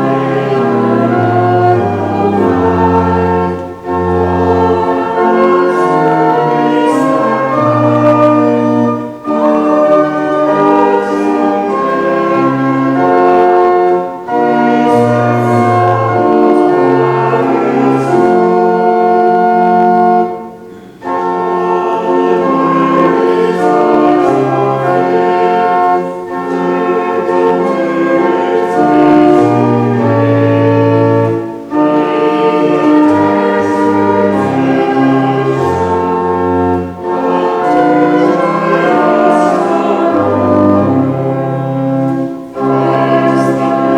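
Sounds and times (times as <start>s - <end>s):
choir singing a hymn: 0.0s - 43.9s
organ accompaniment: 0.0s - 43.9s.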